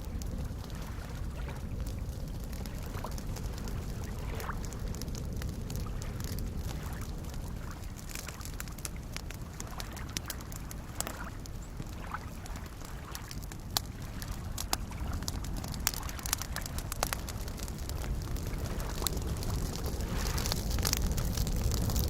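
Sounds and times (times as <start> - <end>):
small waves lapping: 0.0 - 21.4
campfire crackling and popping: 0.0 - 22.0.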